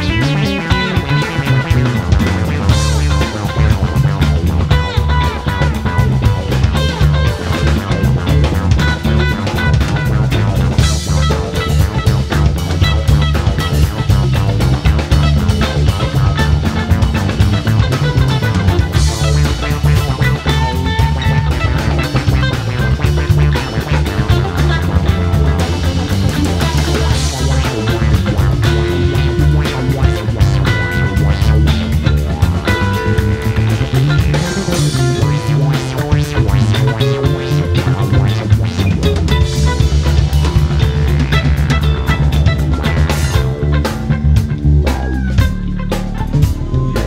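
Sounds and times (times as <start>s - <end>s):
bass guitar: 0.0s - 47.0s
drum kit: 0.0s - 47.0s
electric guitars: 0.0s - 47.0s
keyboards: 0.0s - 47.0s
rock band playing: 0.0s - 47.0s.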